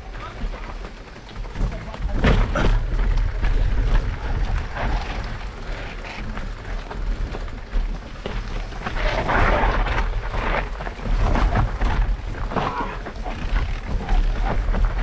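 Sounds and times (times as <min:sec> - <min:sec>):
bike rattling over rough ground: 0:00.0 - 0:15.0
wind rumble on microphone: 0:00.0 - 0:15.0.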